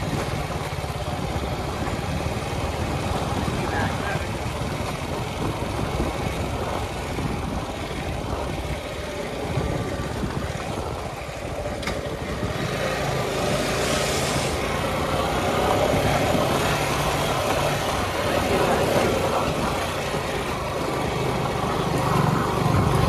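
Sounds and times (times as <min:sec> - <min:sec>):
wind noise: 0:00.0 - 0:20.7
motorcycle engine running: 0:00.0 - 0:23.0.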